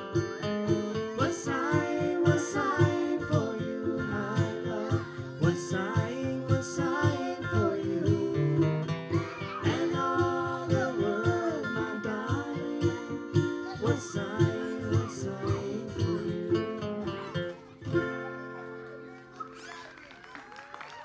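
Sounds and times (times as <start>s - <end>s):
acoustic guitar strumming: 0.0s - 19.3s.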